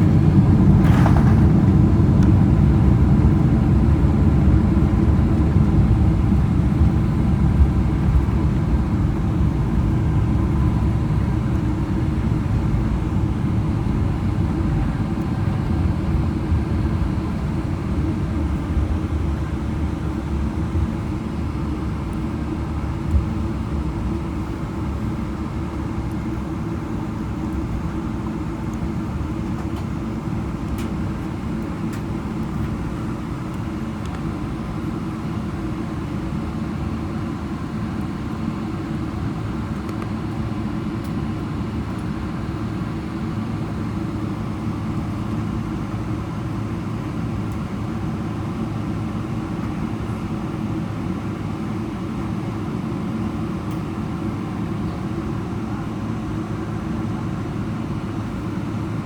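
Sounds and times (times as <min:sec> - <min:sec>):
low rumble of wheels and engines: 0:00.0 - 0:59.0.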